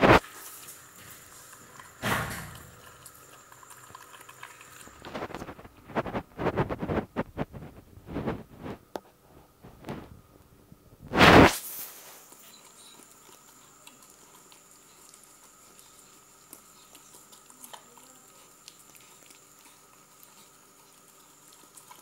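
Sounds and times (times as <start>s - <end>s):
puppy eating from a bowl: 0.0s - 10.6s, 11.2s - 22.0s
faint high hum: 0.0s - 22.0s.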